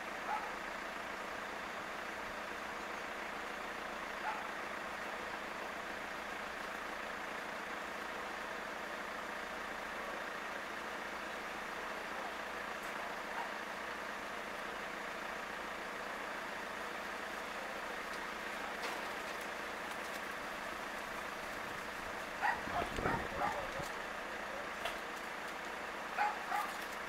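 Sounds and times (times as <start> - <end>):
outdoor background hum: 0.0 - 27.0.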